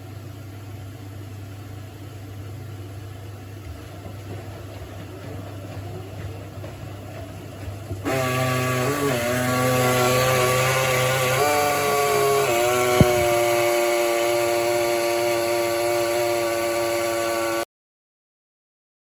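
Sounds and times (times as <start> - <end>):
washing machine buzzing hum: 0.0 - 17.7.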